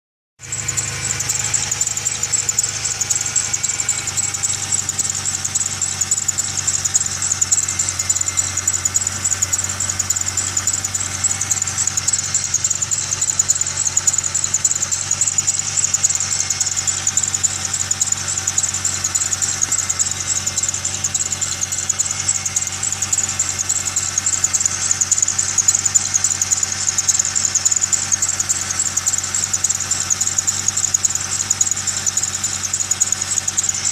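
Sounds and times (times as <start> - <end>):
drive belt squealing: 0.4 - 33.9
engine idling: 0.4 - 33.9.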